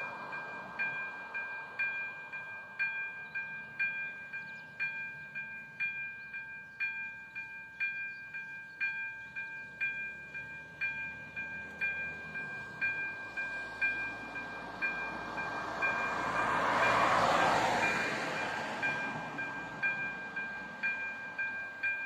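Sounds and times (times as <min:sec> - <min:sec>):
level crossing warning bell ringing: 0:00.0 - 0:22.0.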